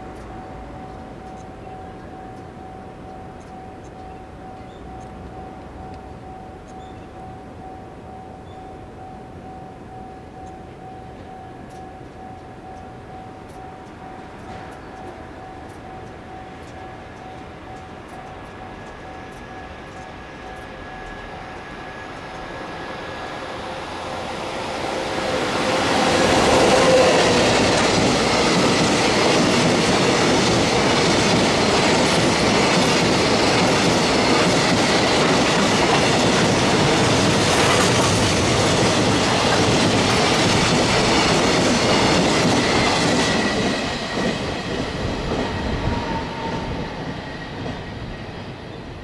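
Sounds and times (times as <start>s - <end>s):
electric locomotive passing: 0.0s - 49.0s.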